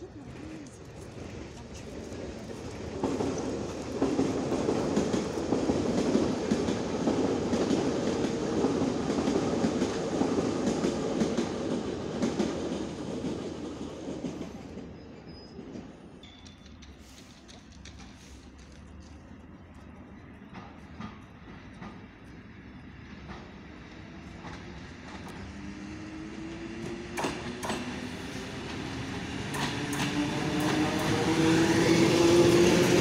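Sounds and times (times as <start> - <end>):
electric train rumbling on rails: 0.0 - 33.0.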